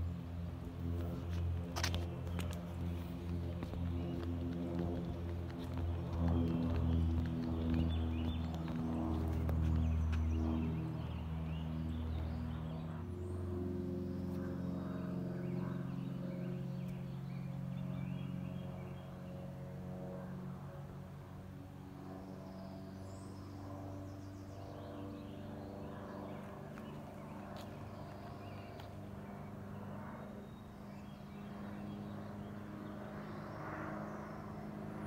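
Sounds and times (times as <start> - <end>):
propeller plane droning overhead: 0.0 - 35.0.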